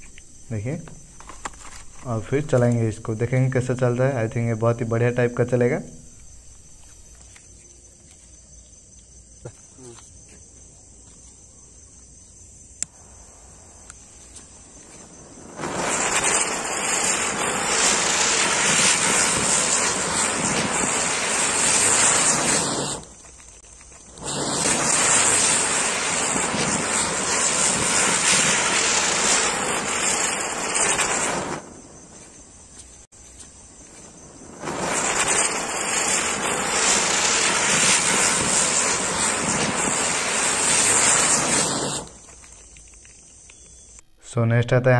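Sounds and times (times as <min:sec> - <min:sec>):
spinning fireworks hissing: 0:00.0 - 0:44.0
crickets chirping: 0:00.0 - 0:44.9.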